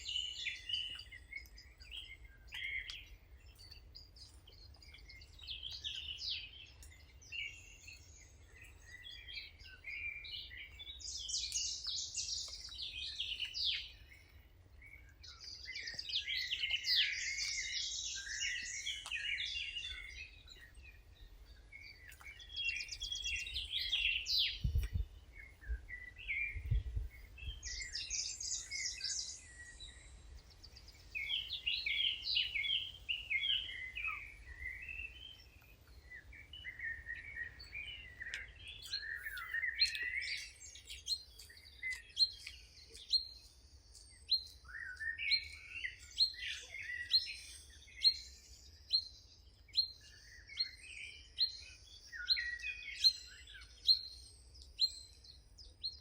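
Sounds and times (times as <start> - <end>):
birds singing in chorus: 0.0 - 56.0.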